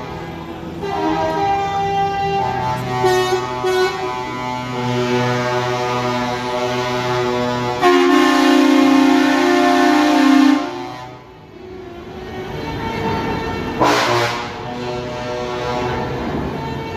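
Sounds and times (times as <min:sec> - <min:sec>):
truck air horns blasting: 0:00.0 - 0:11.4, 0:12.6 - 0:16.9.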